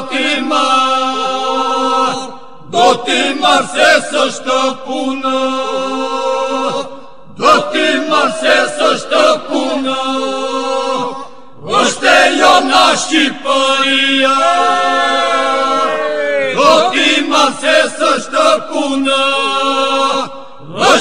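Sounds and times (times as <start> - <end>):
ornamented lead voices singing: 0.0 - 21.0.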